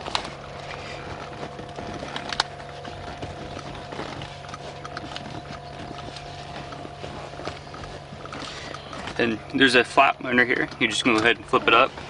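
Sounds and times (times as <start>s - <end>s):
seat belt buckles clicking: 0.0s - 12.0s
steady background hum: 0.0s - 12.0s.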